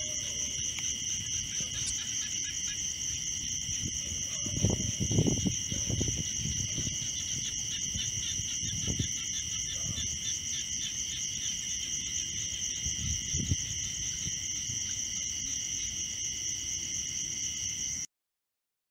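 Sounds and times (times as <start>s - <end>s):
insects trilling: 0.0s - 18.1s.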